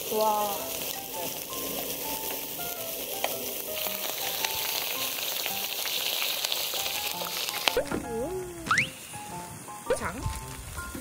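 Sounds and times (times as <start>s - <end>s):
meat sizzling on a grill: 0.0s - 11.0s
fat popping: 1.9s - 11.0s.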